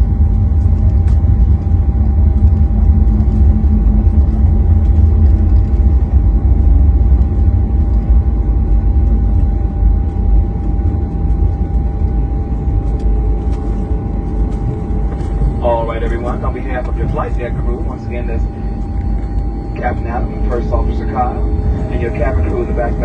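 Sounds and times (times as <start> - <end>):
aircraft engine rumble: 0.0 - 23.0
steady whine: 0.0 - 23.0.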